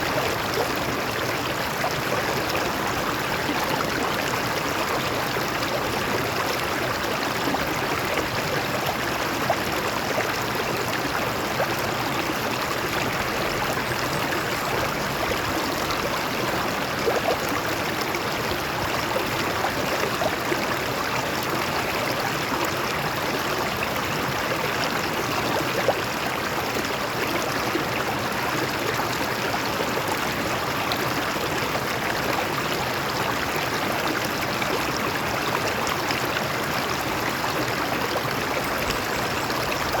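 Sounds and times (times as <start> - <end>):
stream flowing over rocks: 0.0 - 40.0.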